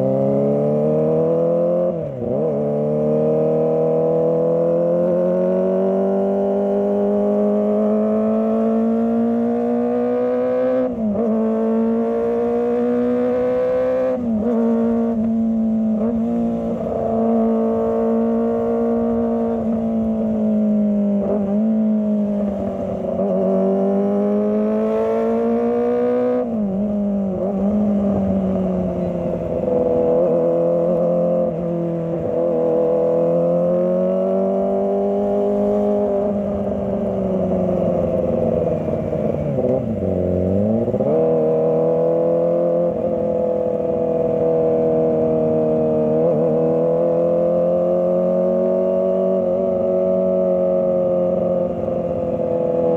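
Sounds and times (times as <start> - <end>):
motorcycle engine at high revs: 0.0 - 52.9.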